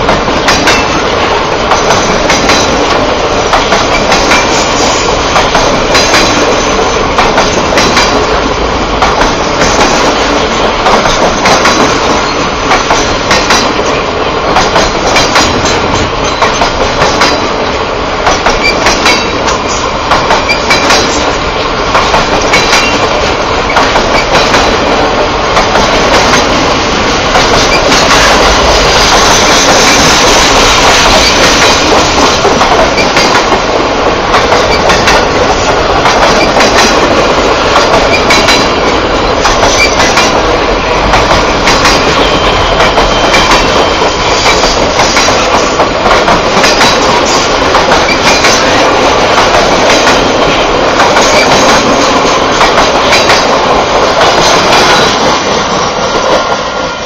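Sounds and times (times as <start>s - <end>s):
clickety-clack over rail joints: 0.0s - 57.0s
train wheels rumbling: 0.0s - 57.0s.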